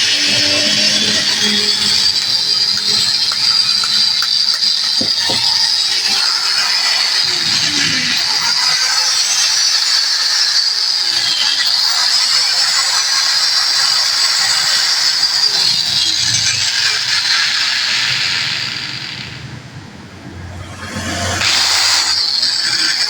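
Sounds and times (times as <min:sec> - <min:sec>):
angle grinder whining: 0:00.0 - 0:23.0.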